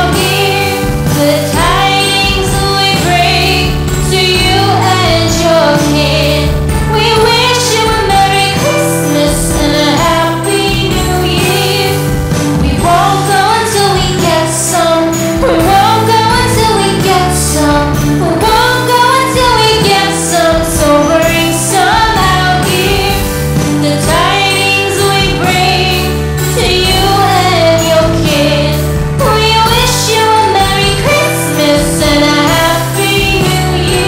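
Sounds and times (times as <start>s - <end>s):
music track with sleigh bells: 0.0s - 34.0s
woman singing: 0.0s - 34.0s.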